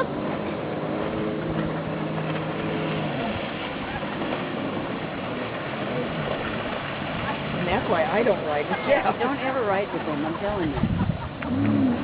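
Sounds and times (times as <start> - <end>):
jet ski engine passing: 0.0 - 12.0.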